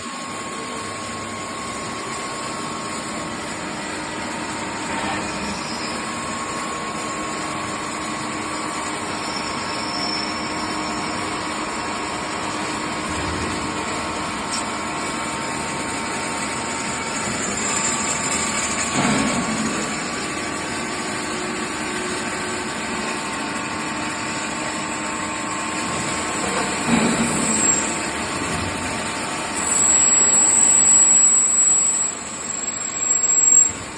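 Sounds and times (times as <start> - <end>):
metalworking machinery whine and hum: 0.0 - 33.9.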